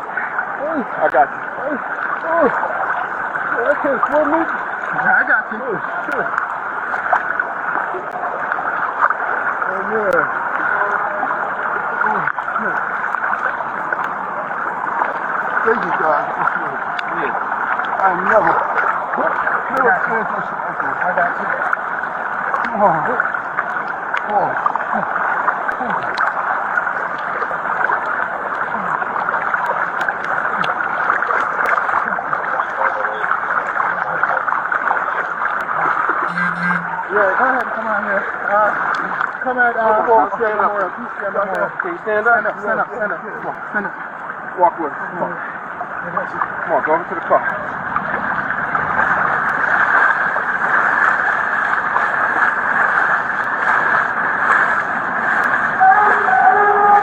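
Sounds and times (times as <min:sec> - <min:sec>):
heavy rain and floodwater rushing: 0:00.0 - 0:57.0.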